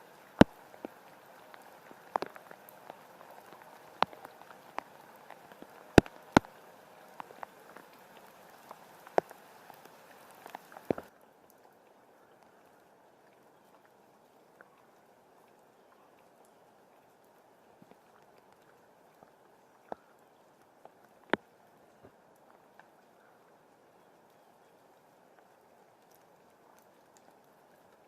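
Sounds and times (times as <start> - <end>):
raindrops ticking: 0.0 - 28.0
steady rain hiss: 0.0 - 28.0.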